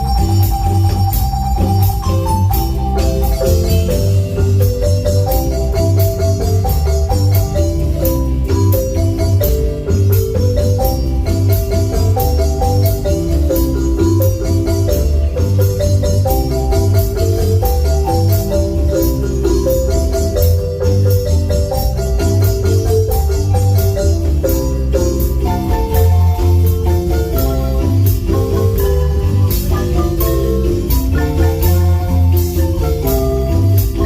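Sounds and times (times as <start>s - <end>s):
deep bass line: 0.0s - 34.0s
high percussion ticks: 0.0s - 34.0s
marimba ensemble playing: 0.0s - 34.0s.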